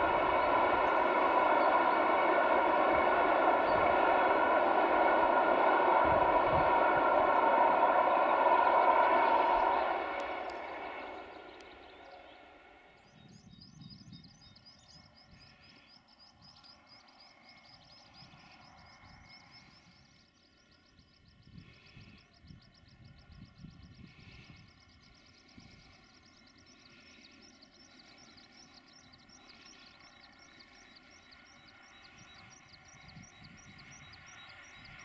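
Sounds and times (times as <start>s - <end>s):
freight train droning and rumbling: 0.0s - 35.0s.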